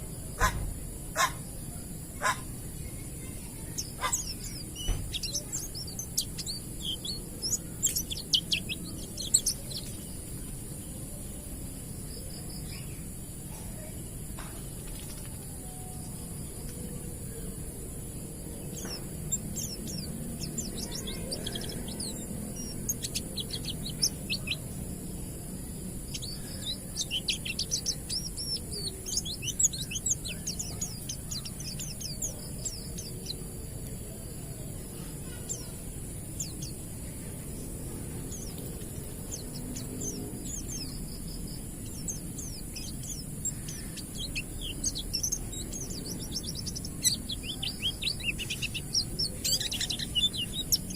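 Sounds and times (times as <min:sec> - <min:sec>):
birds twittering chirps: 0:00.0 - 0:50.9
steady high-pitched hiss: 0:00.0 - 0:50.9.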